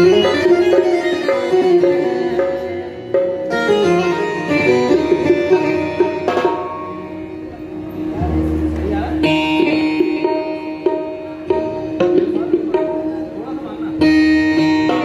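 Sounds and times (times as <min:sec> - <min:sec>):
steady drone: 0:00.0 - 0:13.8
keyboard plucked melody: 0:00.0 - 0:15.0
tabla-style percussion: 0:00.0 - 0:15.0.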